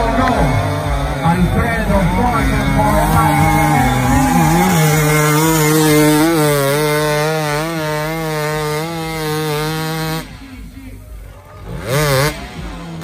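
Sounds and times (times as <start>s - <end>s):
dirt bike engine at high revs: 0.0s - 13.0s.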